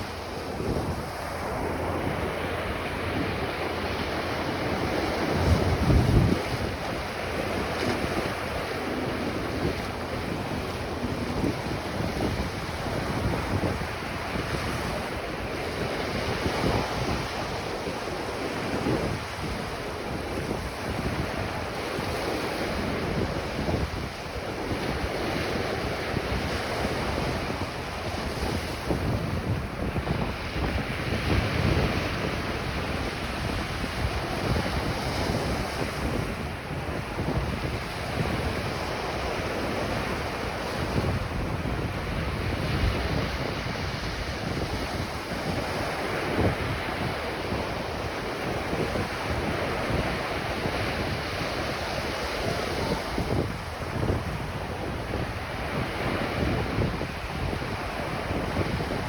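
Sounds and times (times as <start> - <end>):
ocean surf breaking on beach: 0.0 - 59.0
wind rumbling on microphone: 0.0 - 59.0.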